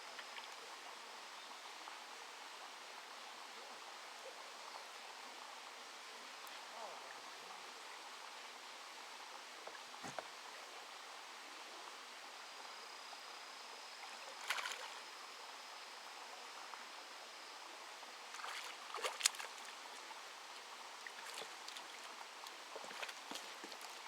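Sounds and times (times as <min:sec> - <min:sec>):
faint running water hiss: 0:00.0 - 0:24.0.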